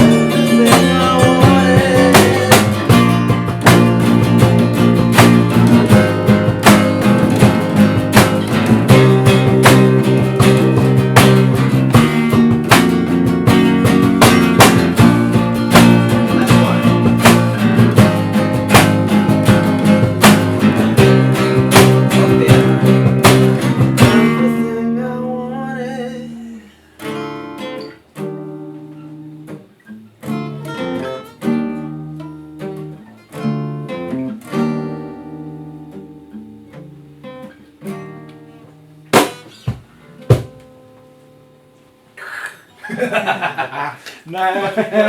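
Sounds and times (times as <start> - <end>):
acoustic guitar strumming chords: 0.0 - 42.2.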